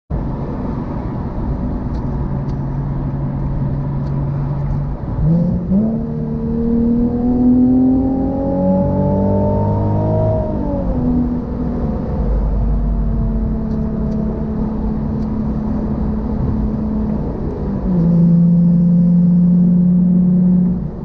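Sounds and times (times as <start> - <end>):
car engine revving: 2.0 - 21.0.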